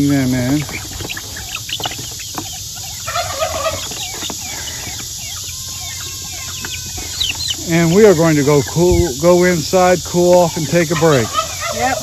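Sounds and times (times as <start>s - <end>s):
chickens chirping: 0.0s - 12.0s
chickens clucking: 0.0s - 12.0s.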